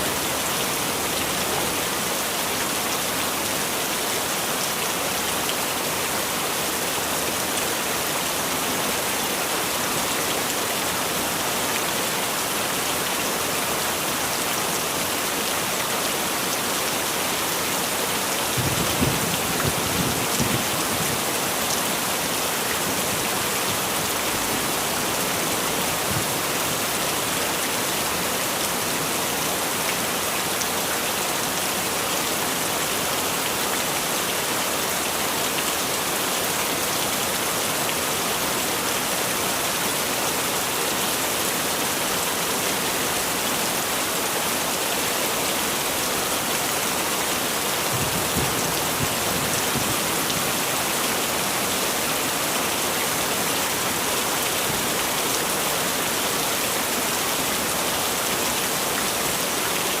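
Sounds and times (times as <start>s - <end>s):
heavy rain: 0.0s - 60.0s.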